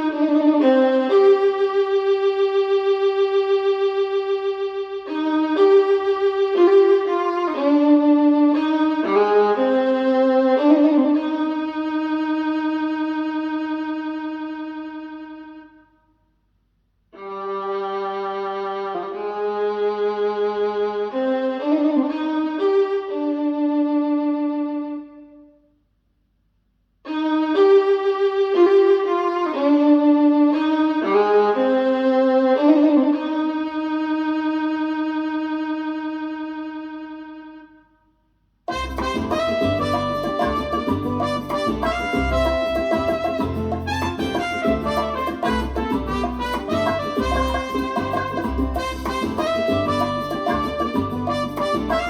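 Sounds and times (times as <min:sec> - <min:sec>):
violin music through speaker: 0:00.0 - 0:15.8, 0:17.2 - 0:25.3, 0:27.1 - 0:37.8, 0:38.7 - 0:52.0.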